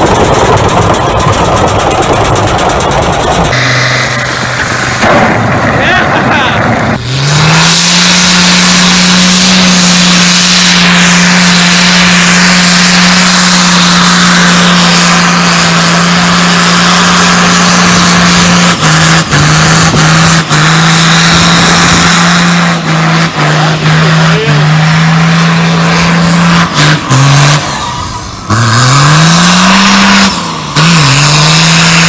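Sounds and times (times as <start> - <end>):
diesel engine revving high: 0.0 - 32.0.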